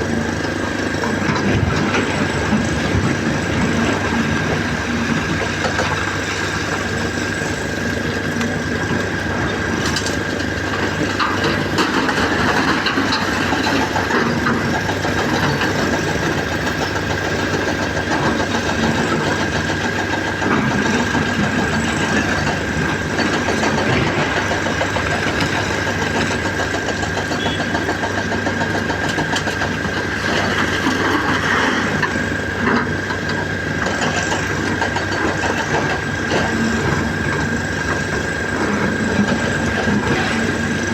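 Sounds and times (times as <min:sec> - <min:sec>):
diesel excavator engine drone: 0:00.0 - 0:40.9.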